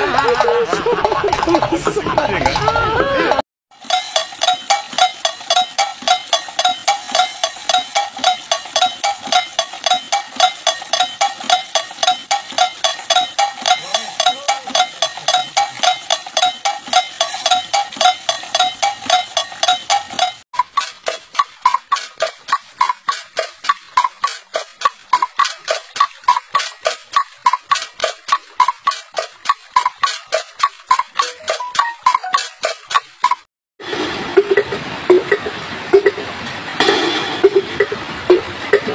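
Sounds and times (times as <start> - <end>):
bird-scaring device knocking: 0.0 - 2.9, 3.8 - 24.4, 25.1 - 33.4, 34.4 - 36.2, 36.8 - 38.9.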